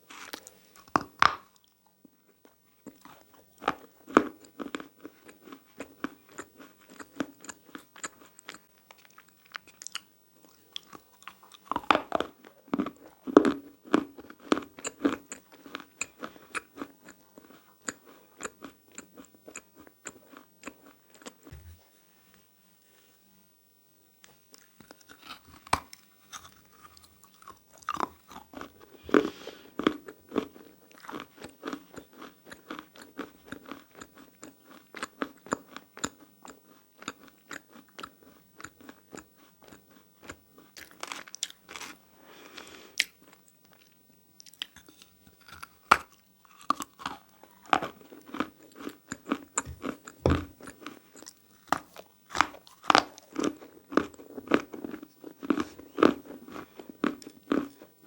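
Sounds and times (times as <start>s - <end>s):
chewing crunchy clay chunks: 0.0s - 21.6s, 24.5s - 42.0s, 42.6s - 58.0s.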